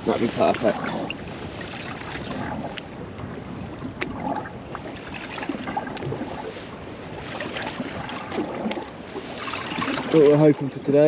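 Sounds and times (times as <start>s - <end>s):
water lapping against boat: 0.0s - 11.0s
wind on microphone: 0.0s - 11.0s.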